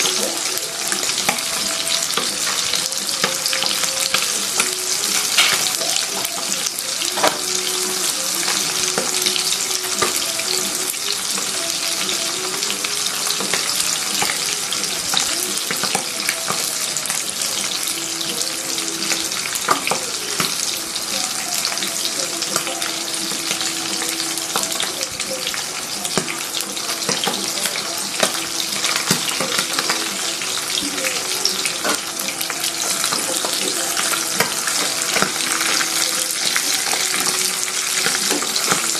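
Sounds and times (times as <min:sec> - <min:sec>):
fish frying in sizzling oil: 0:00.0 - 0:38.9.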